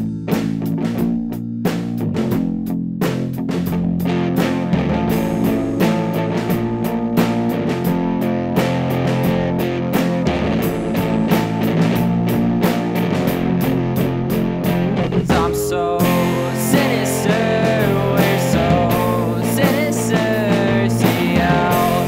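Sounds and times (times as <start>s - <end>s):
bass line: 0.0s - 22.0s
drums steady beat: 0.0s - 22.0s
guitar chords: 0.0s - 22.0s.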